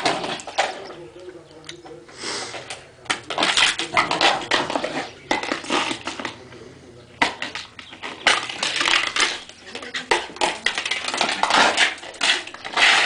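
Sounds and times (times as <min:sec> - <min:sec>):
flower pot clattering on concrete: 0:00.0 - 0:13.0.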